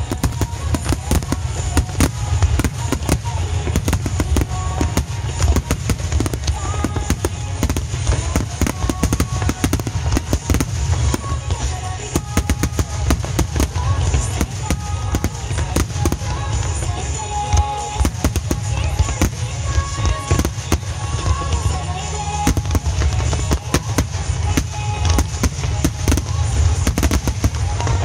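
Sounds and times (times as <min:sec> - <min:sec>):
fireworks bursting: 0:00.0 - 0:28.0
music playing: 0:00.0 - 0:28.0.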